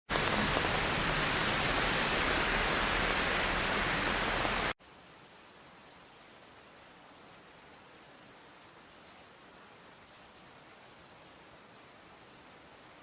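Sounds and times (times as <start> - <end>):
heavy rain hiss: 0.1 - 13.0
soft faint rain hiss: 0.1 - 13.0.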